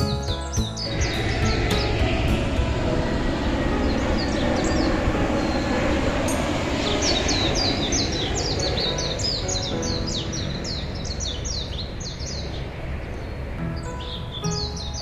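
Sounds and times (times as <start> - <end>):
birds chirping: 0.0 - 15.0
low rumble and rushing noise: 0.1 - 15.0.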